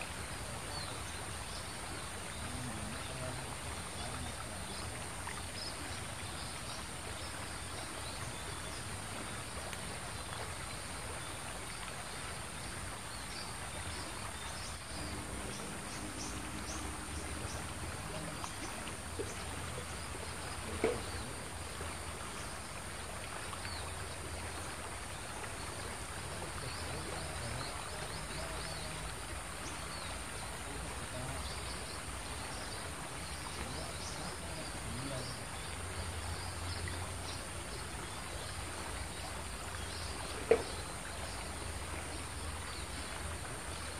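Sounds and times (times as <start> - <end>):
flowing water rushing: 0.0 - 43.9
insects chirping: 0.0 - 43.9.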